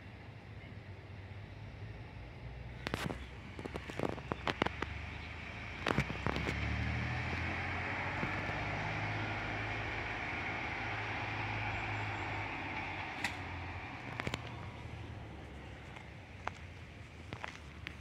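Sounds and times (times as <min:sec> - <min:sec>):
diesel engine starting: 0:01.3 - 0:18.0
engine knocks: 0:02.8 - 0:18.0.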